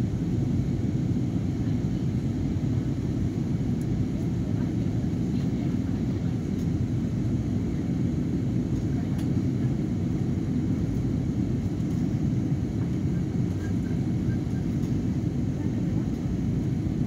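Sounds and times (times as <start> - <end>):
airliner cabin engine hum: 0.0 - 17.0.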